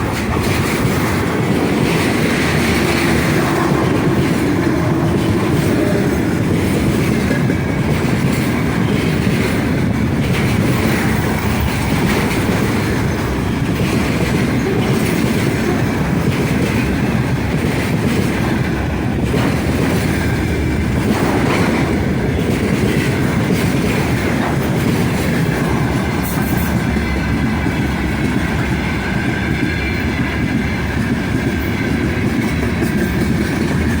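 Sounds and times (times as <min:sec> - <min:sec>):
clickety-clack over rail joints: 0:00.0 - 0:34.0
train wheels rumbling on rails: 0:00.0 - 0:34.0.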